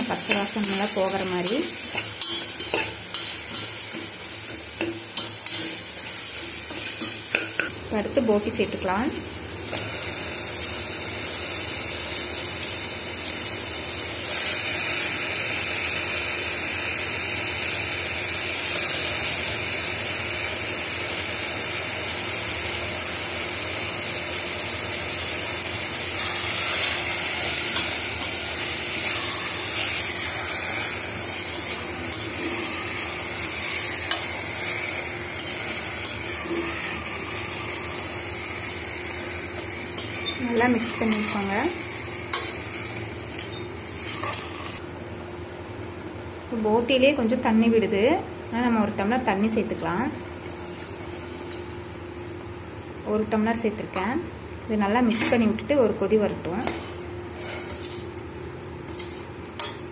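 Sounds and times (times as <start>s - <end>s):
masala sizzling in pot: 0.0s - 44.9s, 48.8s - 54.0s, 55.0s - 59.9s.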